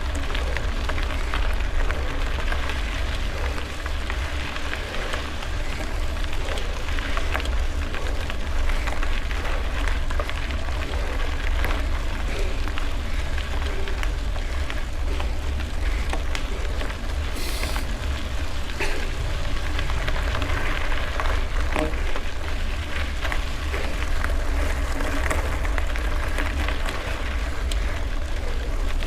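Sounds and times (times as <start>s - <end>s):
bicycle rattling: 0.0s - 29.0s
tyres rolling on gravel: 0.0s - 29.0s.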